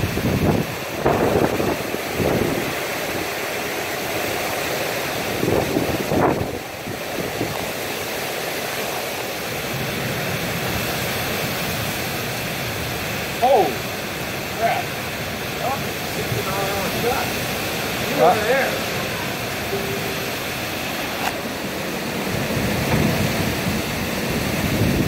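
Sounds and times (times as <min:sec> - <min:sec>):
heavy rain: 0:00.0 - 0:25.0
storm wind: 0:00.0 - 0:25.0
wind gusts buffeting microphone: 0:00.0 - 0:25.0.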